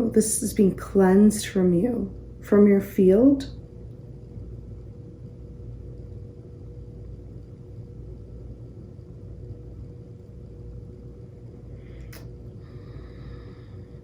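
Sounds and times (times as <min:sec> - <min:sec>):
faint steady hum: 0:00.0 - 0:14.0
low background rumble: 0:00.0 - 0:14.0.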